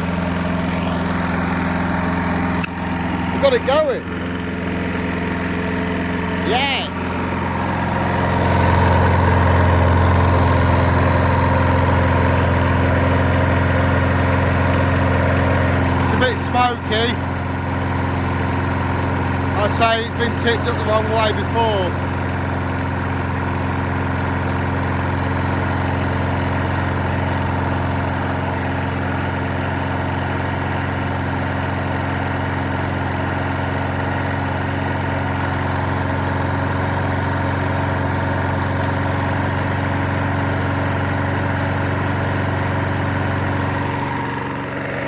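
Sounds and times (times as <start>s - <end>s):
lawnmower engine running: 0.0s - 45.0s.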